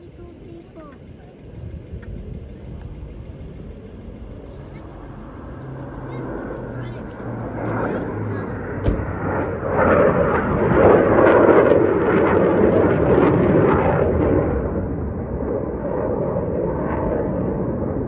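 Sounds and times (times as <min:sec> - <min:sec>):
military jets roaring overhead: 0:00.0 - 0:18.0.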